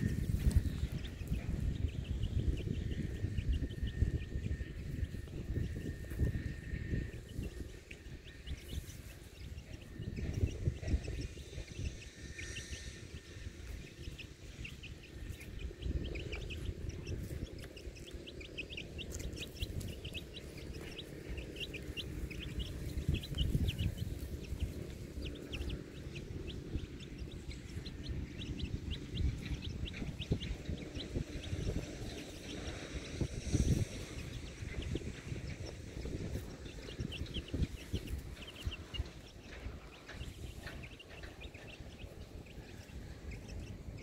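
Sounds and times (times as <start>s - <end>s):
birds calling high notes: 0.0s - 44.0s
low uneven rumble: 0.0s - 44.0s.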